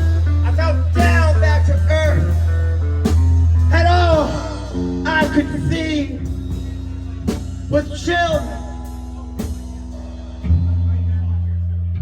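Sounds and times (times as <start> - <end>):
guitar and bass notes: 0.0 - 12.0.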